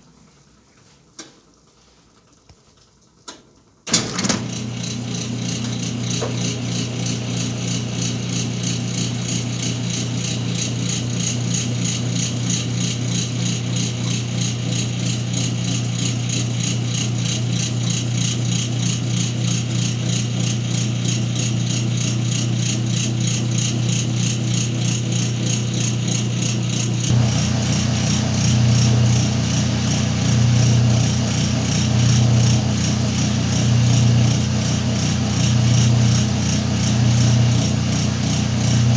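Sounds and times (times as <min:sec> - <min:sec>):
washing machine running: 0:03.9 - 0:38.9.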